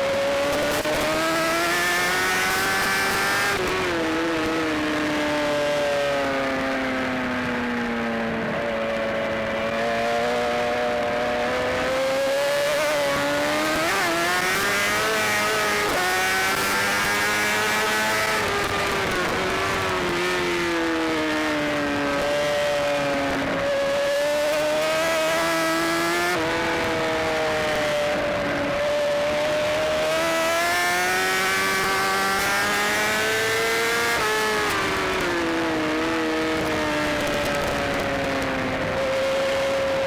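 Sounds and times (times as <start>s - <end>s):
motorcycle engine revving hard: 0.0s - 7.2s, 8.3s - 40.0s.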